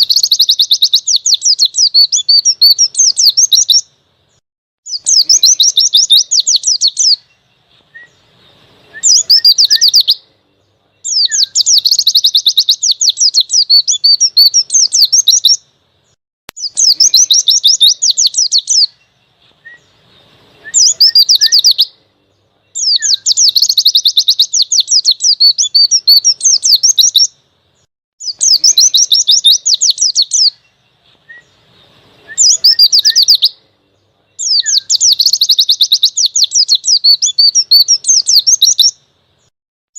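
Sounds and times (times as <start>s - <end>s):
bird twittering rapidly: 0.0s - 10.3s, 11.0s - 22.1s, 22.7s - 39.5s.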